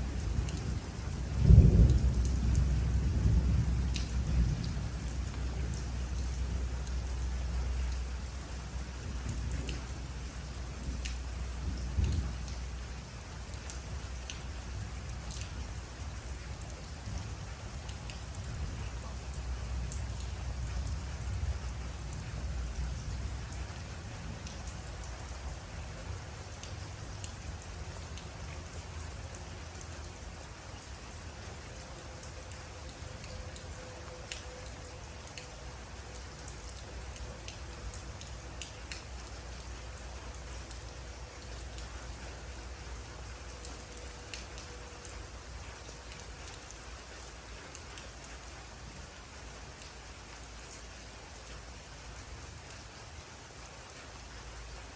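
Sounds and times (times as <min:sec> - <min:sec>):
rain falling: 0:00.0 - 0:54.9
raindrops tapping: 0:00.0 - 0:54.9.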